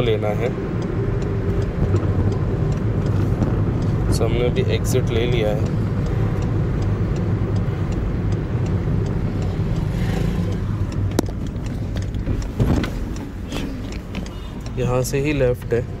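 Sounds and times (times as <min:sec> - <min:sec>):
car engine and tyres driving: 0:00.0 - 0:16.0.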